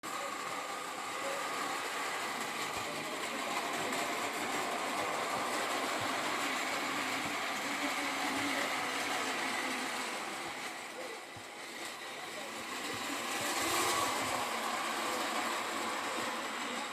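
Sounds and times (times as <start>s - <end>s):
toy train motor whirring: 0.0s - 16.9s
faint clicks from rails: 0.2s - 16.9s.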